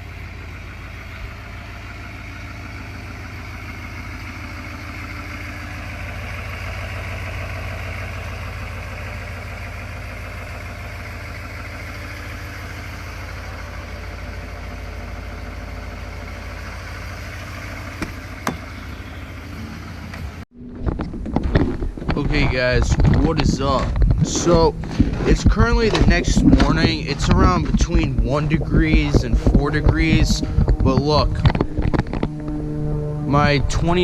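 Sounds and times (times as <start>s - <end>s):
diesel truck engine idling: 0.0s - 20.5s, 23.3s - 34.0s.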